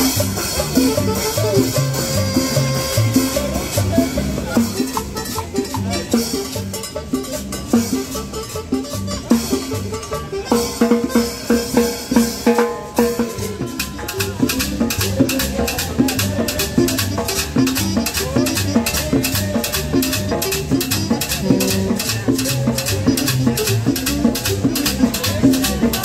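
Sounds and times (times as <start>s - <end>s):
rattling percussion beat: 0.0s - 26.0s
street band playing dance music: 0.0s - 26.0s
walking bass line: 0.0s - 26.0s.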